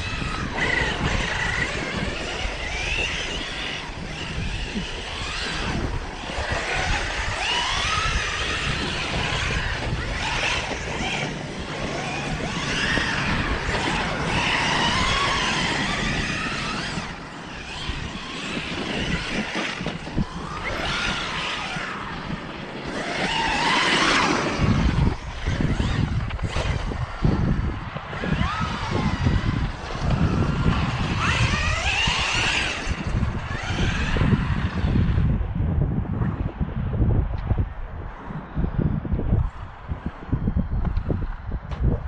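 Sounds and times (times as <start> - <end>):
electric motor whining: 0.0 - 35.6
wind rumble on microphone: 0.0 - 42.0.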